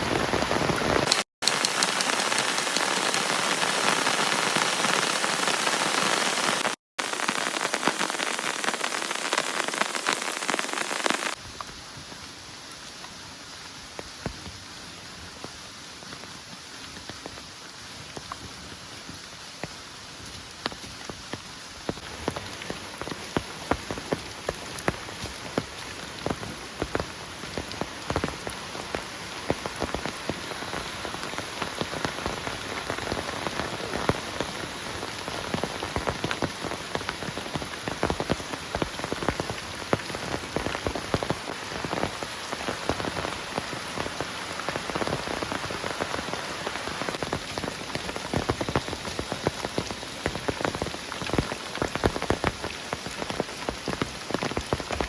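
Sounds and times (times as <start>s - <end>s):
heavy rain falling: 0.0s - 14.6s, 15.2s - 55.0s
raindrops striking close by: 0.0s - 55.0s.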